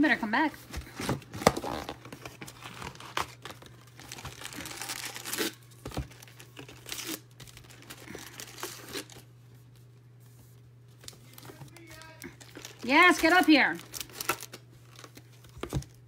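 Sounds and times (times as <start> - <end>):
packaging crinkling and tearing: 0.9 - 9.3, 11.0 - 16.0.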